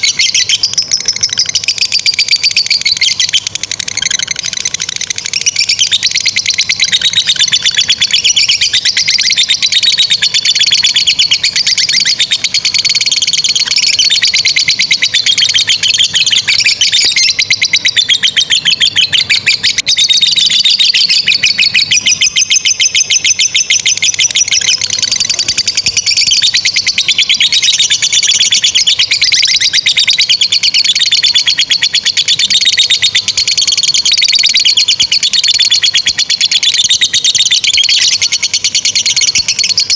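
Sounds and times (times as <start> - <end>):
lovebirds chattering trill: 0.0 - 39.9.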